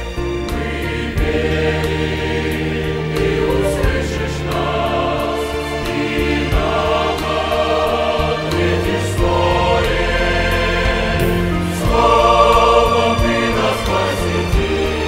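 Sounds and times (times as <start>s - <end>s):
mixed choir singing a hymn: 0.0s - 15.0s.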